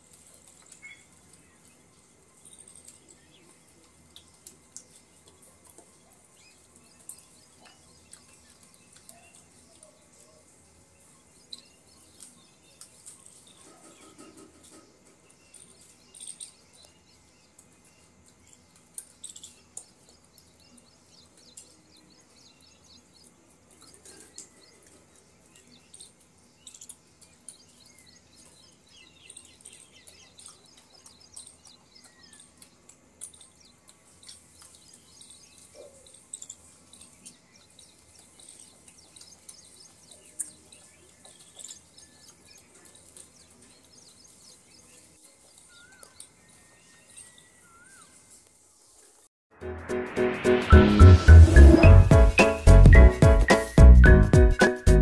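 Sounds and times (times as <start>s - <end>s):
birds chirping: 0.0s - 49.2s, 50.0s - 55.0s.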